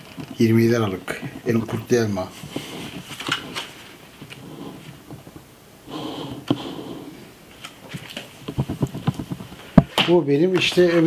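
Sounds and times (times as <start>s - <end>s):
book pages rustling: 0.0s - 5.5s, 7.5s - 11.0s.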